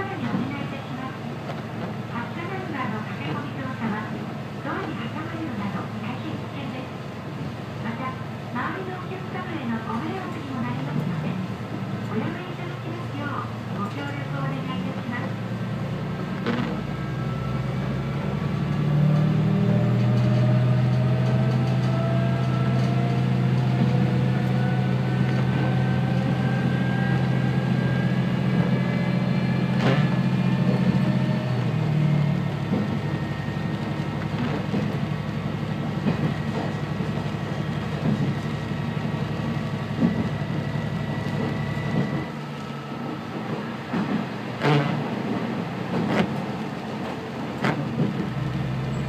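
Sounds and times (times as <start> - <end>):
railcar engine droning: 0.0 - 49.0.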